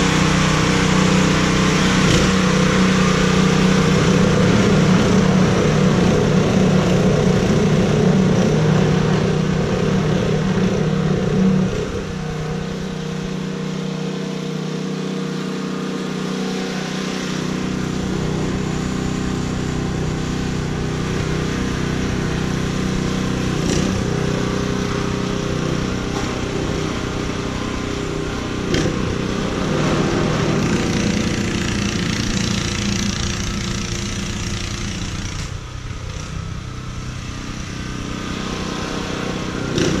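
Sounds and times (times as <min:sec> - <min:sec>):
engine running: 0:00.0 - 0:40.0.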